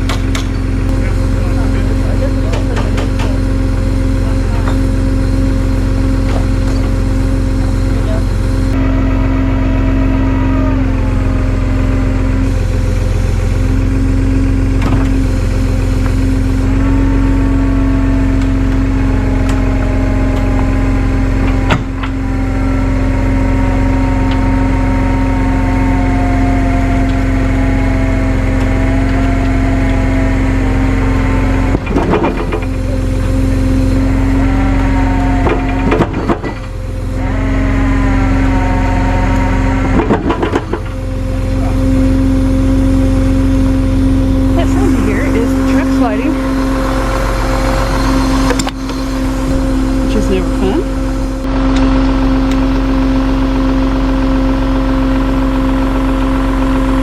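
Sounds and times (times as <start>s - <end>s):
truck engine running: 0.0s - 57.0s
winch whining: 0.0s - 57.0s.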